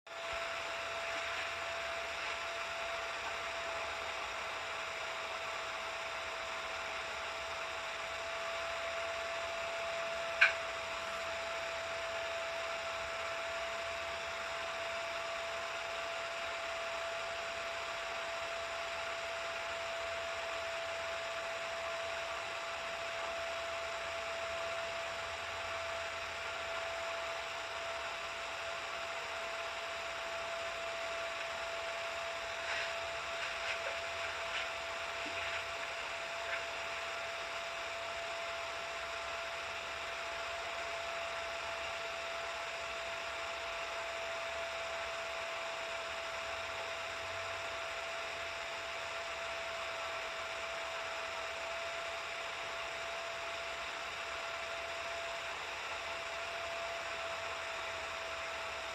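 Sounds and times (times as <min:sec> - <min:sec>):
mechanical hum with whine: 0:00.1 - 0:58.9.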